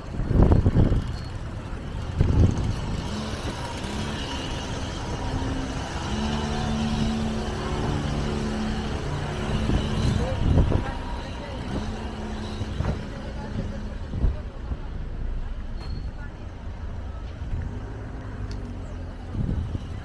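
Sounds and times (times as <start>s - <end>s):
street noise: 0.0s - 20.0s
vehicle engine humming: 0.0s - 20.0s.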